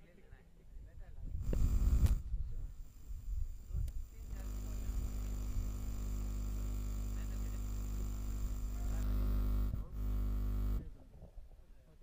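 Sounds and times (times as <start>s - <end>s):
electrical mains hum and buzz: 1.0s - 11.0s.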